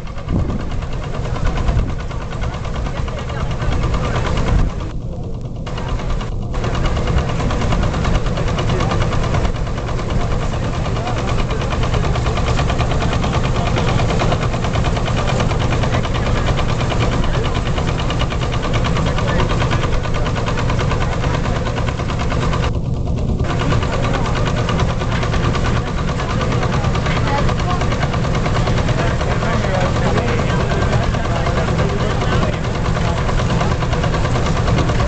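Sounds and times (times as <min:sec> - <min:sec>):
threshing machine running: 0:00.0 - 0:35.0
tractor engine beat: 0:00.0 - 0:35.0.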